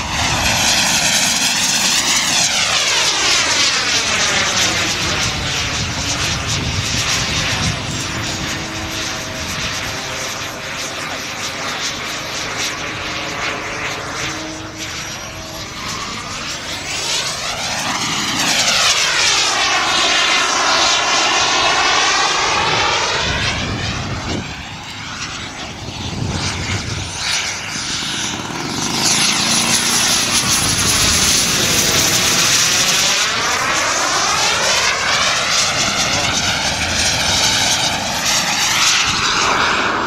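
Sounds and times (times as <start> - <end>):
jet turbine whine: 0.0 - 40.0.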